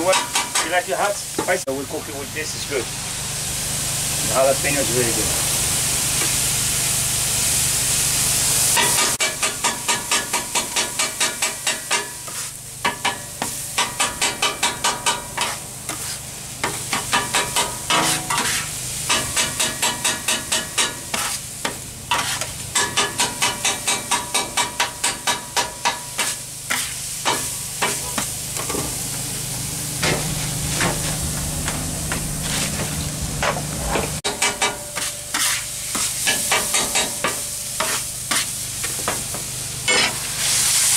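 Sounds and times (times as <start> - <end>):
chicken sizzling on a griddle: 0.0 - 33.4, 34.2 - 40.9.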